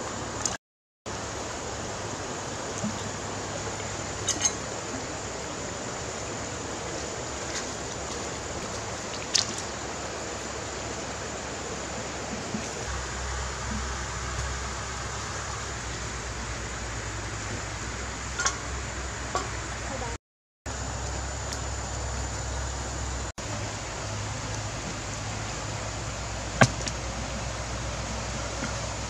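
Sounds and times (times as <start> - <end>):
rocky stream rushing: 0.0 - 20.0, 20.7 - 29.0.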